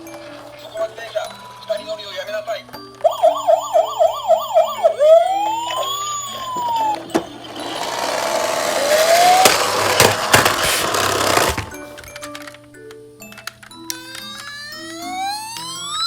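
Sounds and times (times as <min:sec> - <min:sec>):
toy electronic siren: 0:00.0 - 0:11.7, 0:13.8 - 0:16.0.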